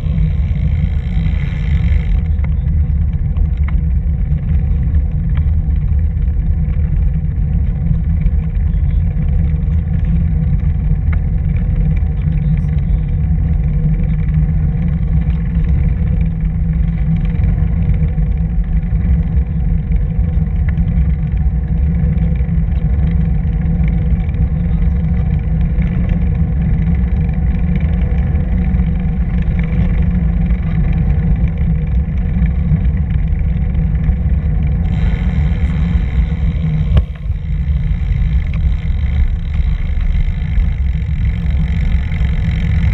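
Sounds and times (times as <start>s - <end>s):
faint steady hum: 0.0s - 42.9s
tyre noise on paved path: 0.0s - 42.9s
wind buffeting microphone: 0.0s - 42.9s.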